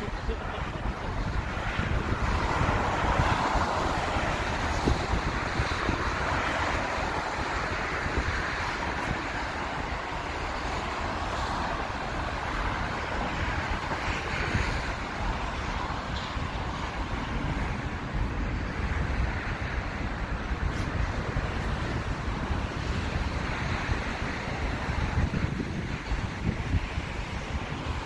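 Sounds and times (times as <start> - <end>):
jet engine roar: 0.0 - 28.0
wind buffeting microphone: 0.0 - 28.0.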